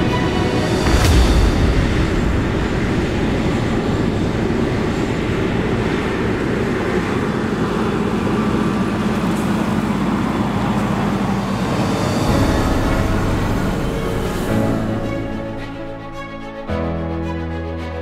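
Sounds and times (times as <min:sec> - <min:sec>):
steady low hum: 0:00.0 - 0:16.7
tractor engine running: 0:00.0 - 0:16.7.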